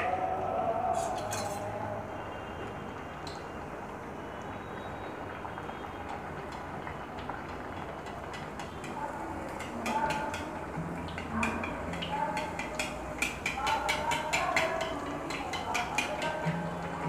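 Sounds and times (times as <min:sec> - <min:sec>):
dough sizzling in hot oil: 0:00.9 - 0:17.0.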